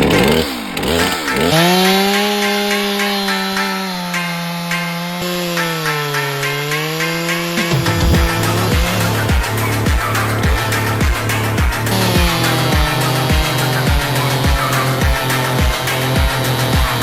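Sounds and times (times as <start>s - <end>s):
chainsaw running at high revs: 0.0s - 17.0s
music: 1.1s - 17.0s.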